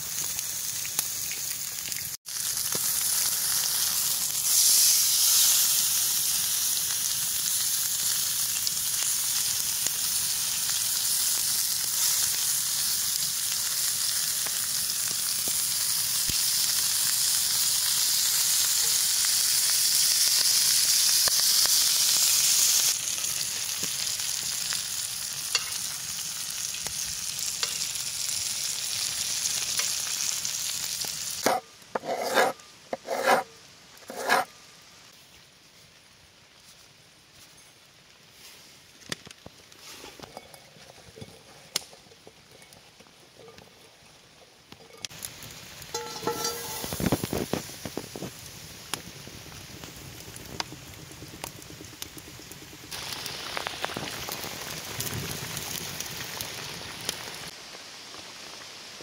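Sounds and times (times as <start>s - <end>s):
food sizzling in hot fat: 0.0s - 35.2s, 39.3s - 59.0s.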